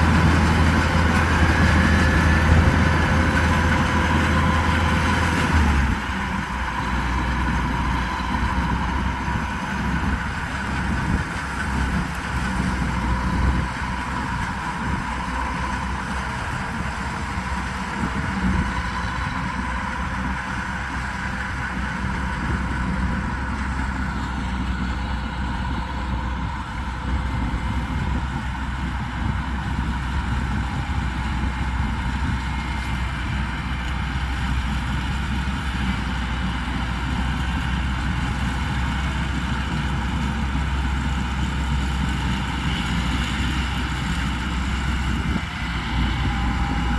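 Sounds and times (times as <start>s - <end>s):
combine harvester diesel engine running: 0.0s - 46.9s.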